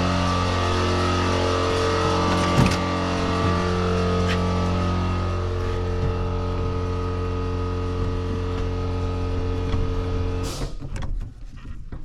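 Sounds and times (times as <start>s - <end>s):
motor humming: 0.0s - 10.5s.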